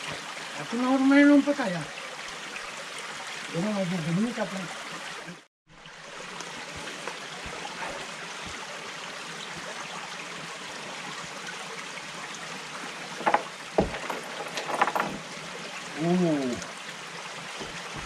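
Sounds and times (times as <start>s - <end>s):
rocky mountain stream flowing: 0.0s - 18.0s.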